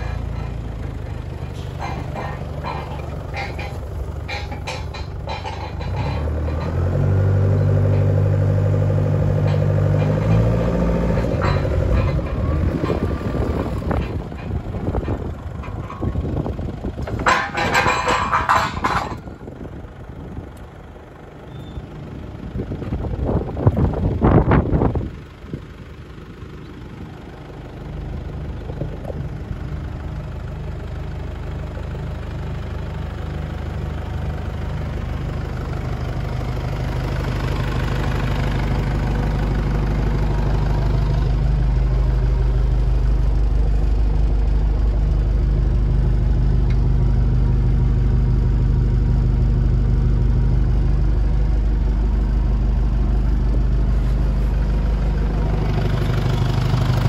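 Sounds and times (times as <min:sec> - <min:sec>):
forklift engine idling: 0:00.0 - 0:57.0.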